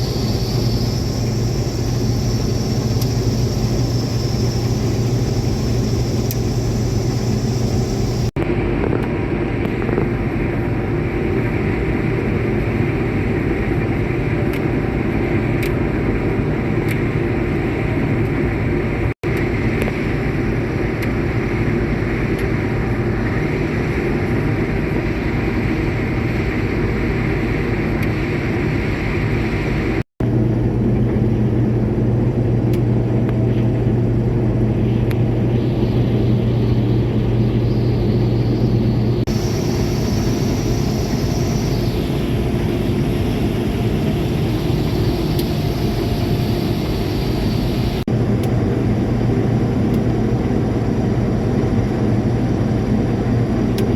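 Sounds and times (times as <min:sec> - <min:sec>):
combine harvester engine drone: 0:00.0 - 0:53.9.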